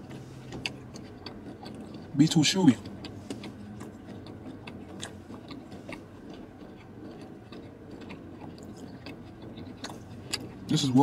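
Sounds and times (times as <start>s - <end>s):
person chewing: 0.0s - 11.0s.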